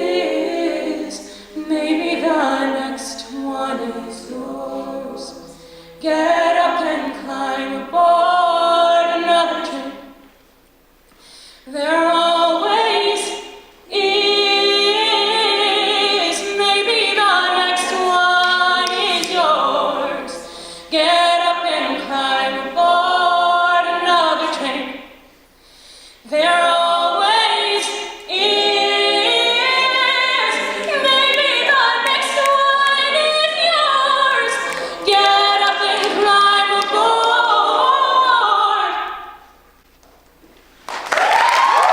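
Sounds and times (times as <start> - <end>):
a cappella group singing in harmony: 0.0 - 10.3, 11.7 - 39.6.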